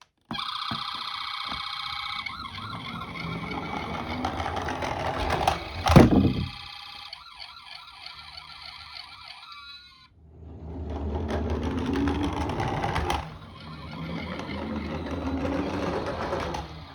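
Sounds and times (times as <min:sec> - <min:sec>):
fast-warbling electronic siren: 0:00.3 - 0:10.1, 0:12.3 - 0:16.9
toy car wheels rolling: 0:00.3 - 0:16.9.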